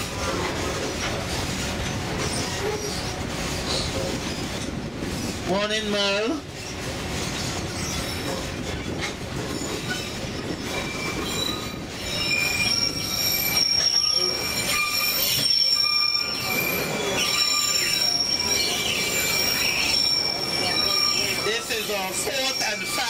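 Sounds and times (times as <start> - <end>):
train cars rumbling on track: 0.0 - 23.0
wheels squealing against rails: 0.0 - 23.0.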